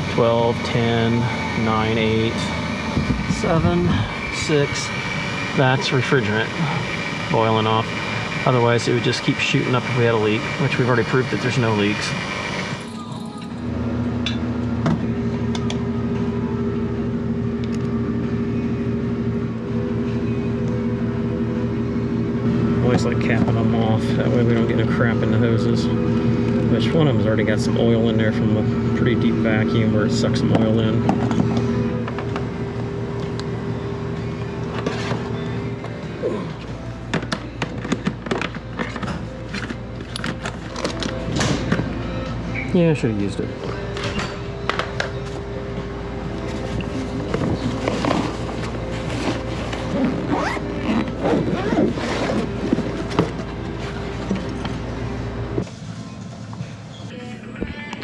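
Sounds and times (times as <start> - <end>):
vacuum pump motor hum: 0.0 - 55.8
background music: 0.0 - 58.0.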